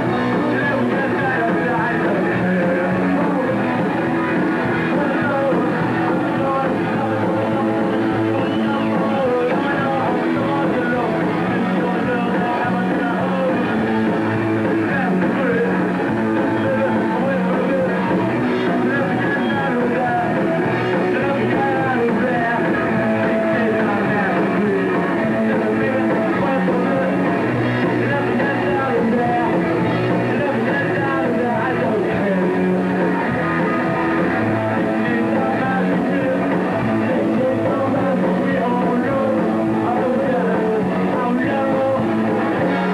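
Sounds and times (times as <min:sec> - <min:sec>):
man singing: 0:00.0 - 0:42.9
punk rock band playing live: 0:00.0 - 0:42.9.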